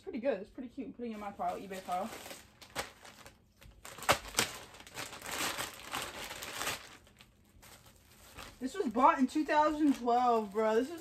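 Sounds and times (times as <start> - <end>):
plastic packaging crinkling: 1.0 - 11.0.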